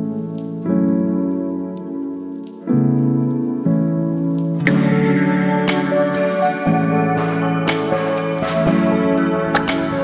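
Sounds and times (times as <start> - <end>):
keyboard chords: 0.0 - 10.0.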